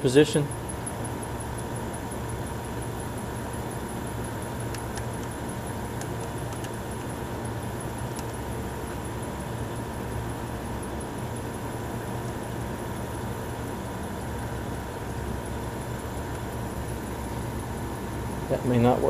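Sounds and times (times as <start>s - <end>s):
refrigerator compressor humming: 0.0s - 19.0s.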